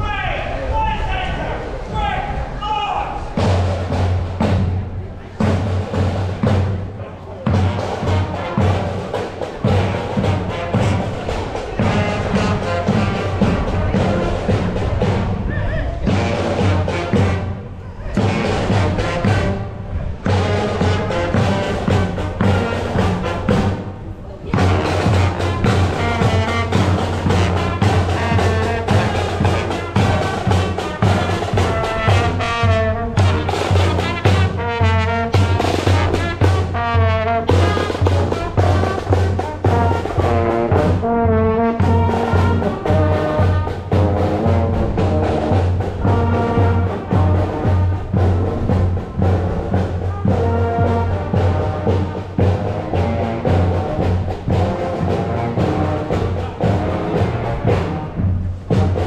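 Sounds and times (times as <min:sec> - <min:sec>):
marching brass band: 0:00.0 - 0:59.0
steady drum beat: 0:03.2 - 0:59.0.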